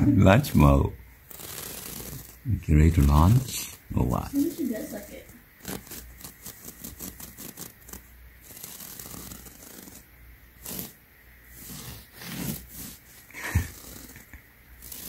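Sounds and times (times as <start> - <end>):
short scratches: 0.4 - 15.0.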